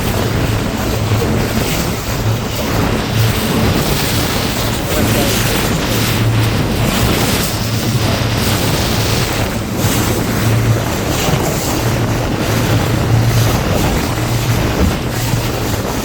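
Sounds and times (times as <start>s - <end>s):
outboard motor running: 0.0s - 16.0s
water slapping against hull: 0.0s - 16.0s
wind buffeting microphone: 0.0s - 16.0s.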